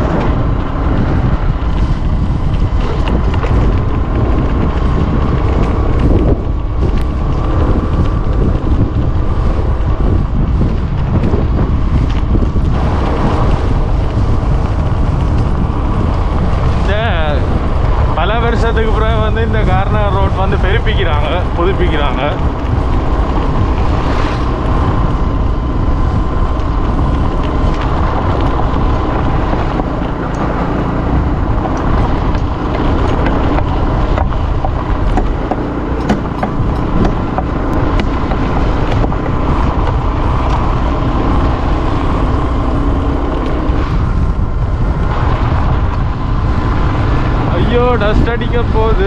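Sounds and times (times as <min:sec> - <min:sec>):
motor engine running: 0:00.0 - 0:49.0
wind noise on microphone: 0:00.0 - 0:49.0.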